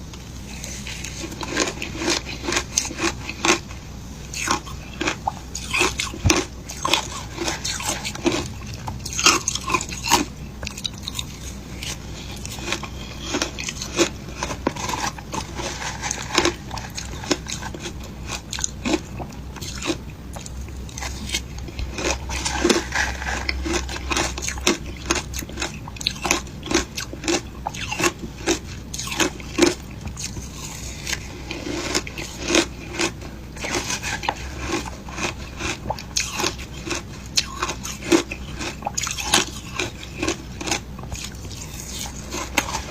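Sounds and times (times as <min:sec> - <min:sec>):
person chewing crunchy ice: 0:00.0 - 0:42.9.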